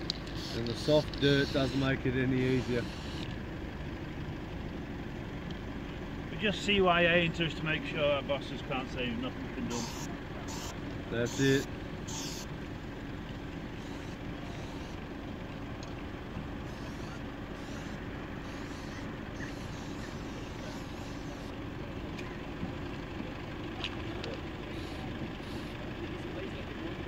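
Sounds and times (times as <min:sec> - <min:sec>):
vehicle engines idling: 0:00.0 - 0:27.0.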